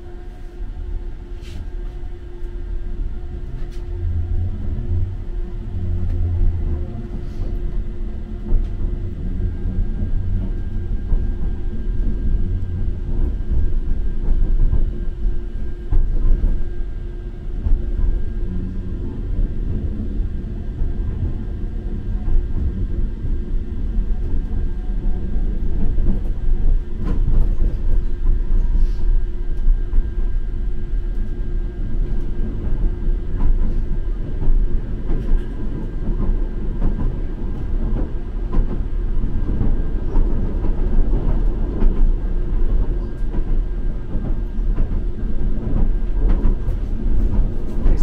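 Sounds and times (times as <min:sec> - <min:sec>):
constant hum: 0:00.0 - 0:48.0
tram rumbling on rails: 0:00.0 - 0:48.0.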